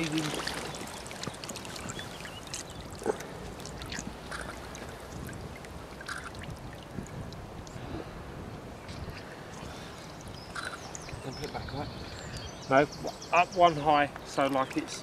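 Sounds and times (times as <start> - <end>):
lake water splashing: 0.0 - 13.8.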